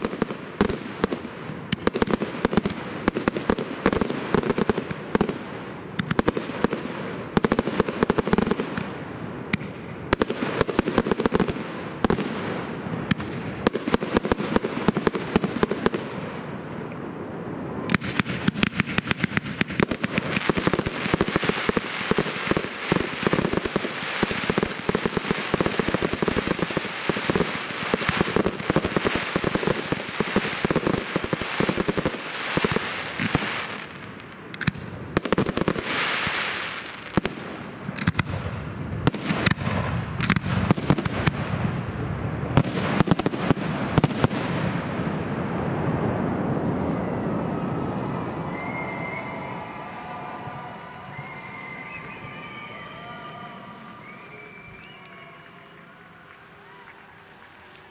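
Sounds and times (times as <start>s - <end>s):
fireworks crackling: 0.0s - 57.9s.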